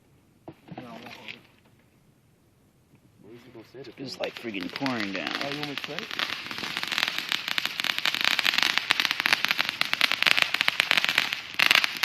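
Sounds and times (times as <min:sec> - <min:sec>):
fireworks crackling: 0:00.0 - 0:02.0, 0:03.0 - 0:12.0.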